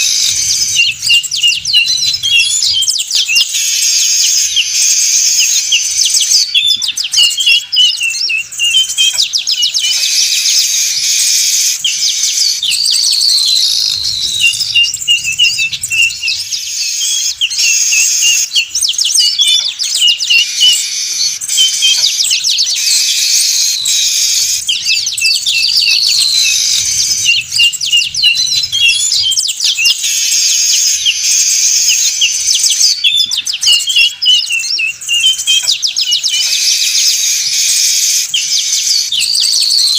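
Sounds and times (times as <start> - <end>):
weaver birds chattering: 0.0 - 39.9.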